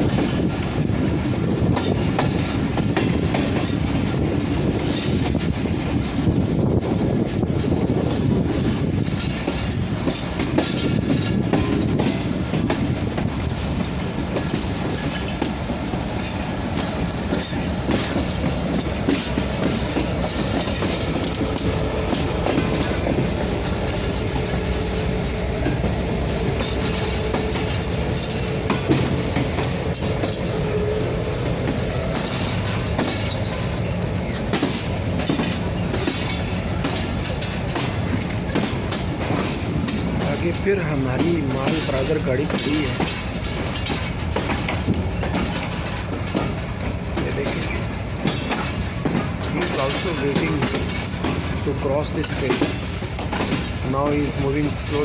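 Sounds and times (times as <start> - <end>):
train rumble: 0.0 - 55.0
wheels clacking over rail joints: 0.0 - 55.0.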